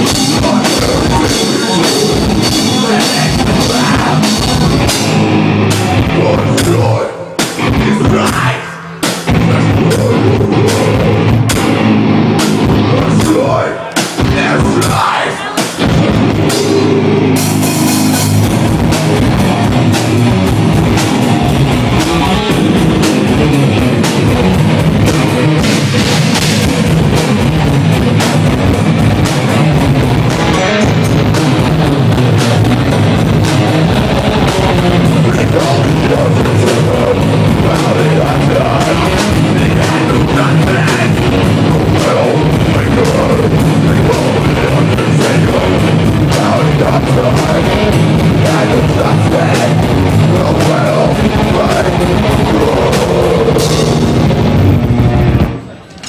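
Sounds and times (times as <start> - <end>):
drum kit: 0.0 - 56.0
electric guitar: 0.0 - 56.0.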